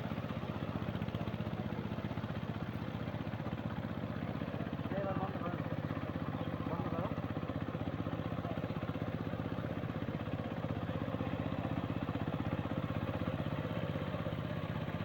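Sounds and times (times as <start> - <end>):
walking tractor diesel engine running: 0.0 - 15.0.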